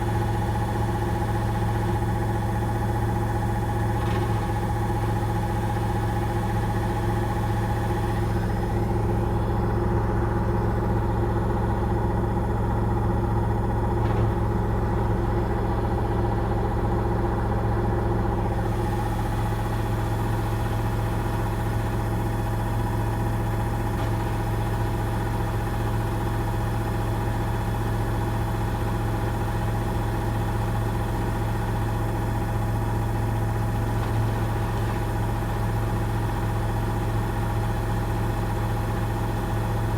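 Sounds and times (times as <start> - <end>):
washing machine spinning hum: 0.0 - 39.9.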